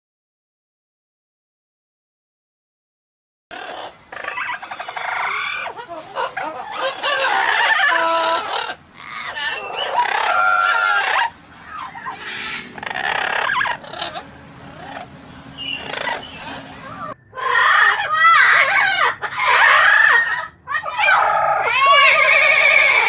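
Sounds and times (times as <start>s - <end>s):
parrots squawking: 3.5s - 23.0s.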